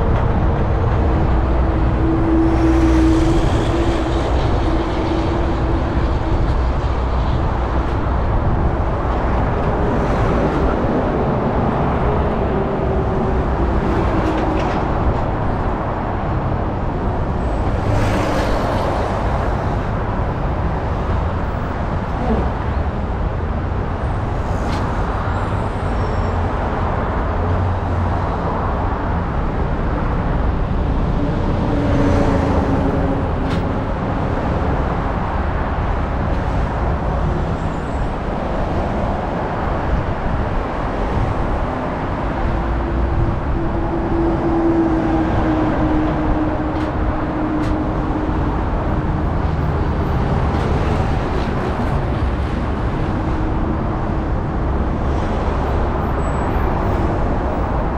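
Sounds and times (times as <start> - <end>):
car road and tyre noise: 0.0 - 57.9.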